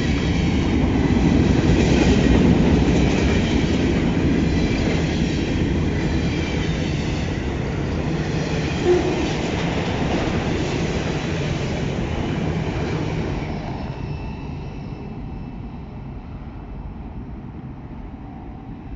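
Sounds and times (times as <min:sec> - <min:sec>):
train wheels rumbling on track: 0:00.0 - 0:18.2.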